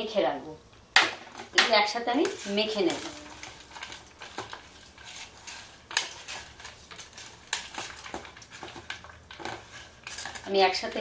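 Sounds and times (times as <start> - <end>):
hand mixing food in metal bowl: 1.1 - 11.0.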